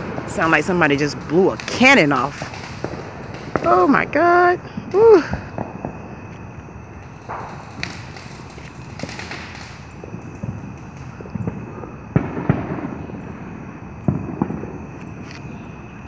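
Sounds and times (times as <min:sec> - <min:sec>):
fireworks crackling burst: 0:00.0 - 0:16.0
fireworks sharp bangs: 0:00.0 - 0:16.0.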